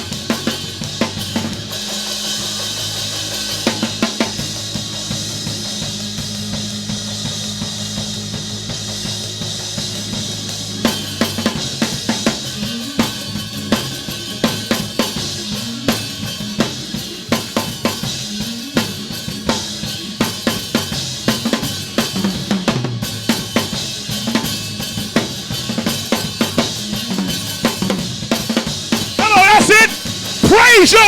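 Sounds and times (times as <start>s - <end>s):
drum kit snare and cymbals: 0.0s - 31.0s
live gospel band music: 0.0s - 31.0s.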